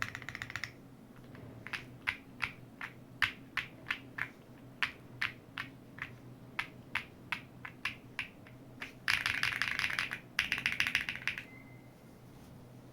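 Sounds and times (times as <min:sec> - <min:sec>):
mechanical keyboard typing: 0:00.0 - 0:11.5.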